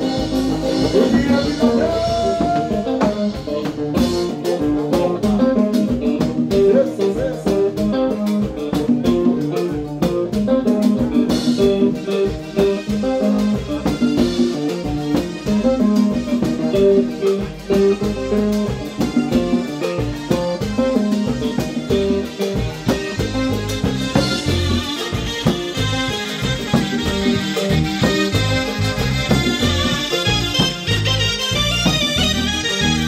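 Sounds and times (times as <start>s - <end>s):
bass: 0.0s - 33.0s
electric guitar melodic runs: 0.0s - 33.0s
steady drum beat: 0.0s - 33.0s.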